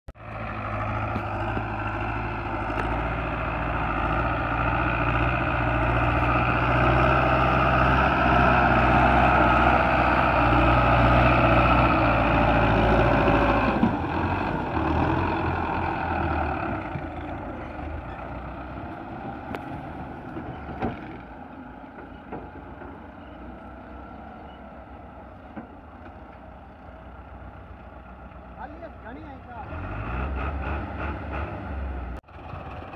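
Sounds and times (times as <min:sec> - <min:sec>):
tractor diesel engine working hard: 0:00.1 - 0:32.9.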